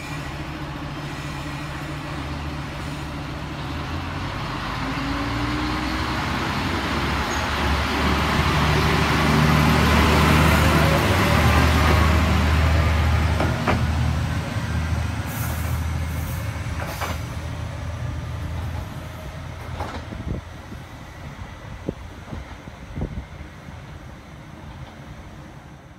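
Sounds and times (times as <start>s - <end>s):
wheel and rail noise: 0.0s - 25.9s.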